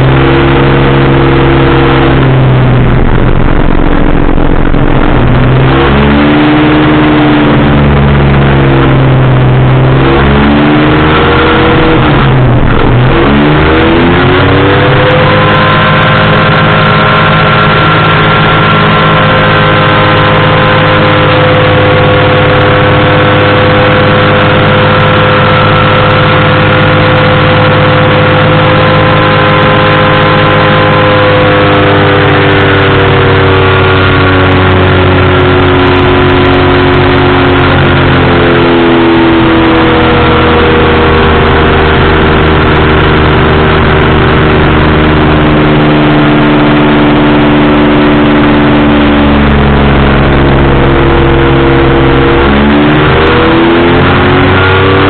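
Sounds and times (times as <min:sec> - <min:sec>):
engine and propeller in flight: 0:00.0 - 0:55.0.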